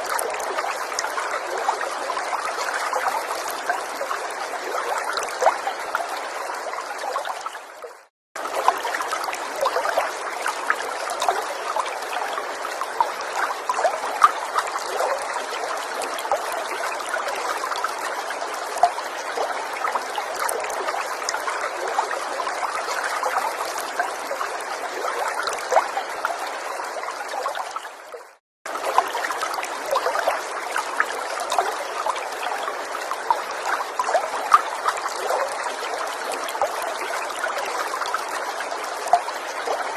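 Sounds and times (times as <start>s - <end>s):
stream trickling and burbling: 0.0s - 39.9s.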